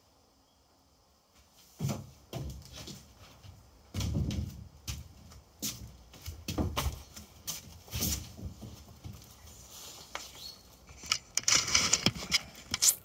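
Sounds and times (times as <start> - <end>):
rustling and scraping: 1.4 - 13.0.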